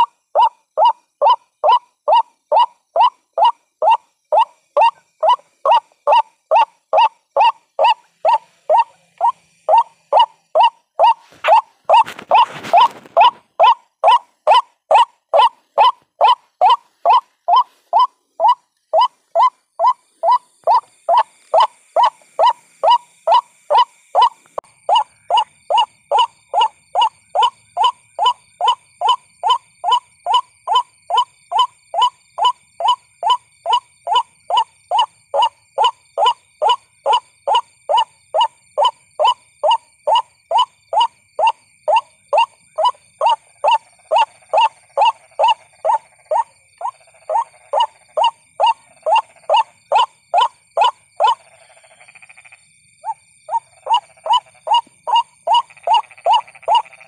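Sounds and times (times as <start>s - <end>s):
bird harsh repeated call: 0.0s - 57.0s
lower-pitched bird call: 0.0s - 57.0s.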